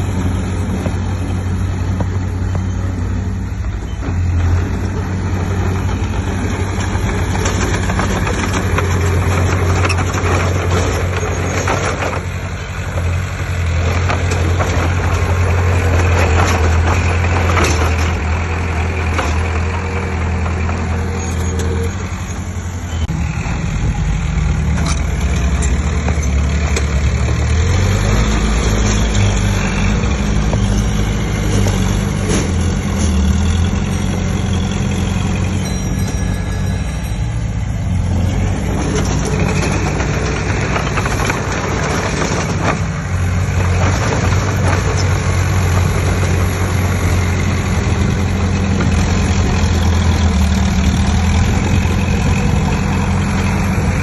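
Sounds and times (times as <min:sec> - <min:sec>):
heavy diesel engine running: 0:00.0 - 0:54.0
clanking and rattling: 0:03.9 - 0:22.5, 0:24.6 - 0:54.0.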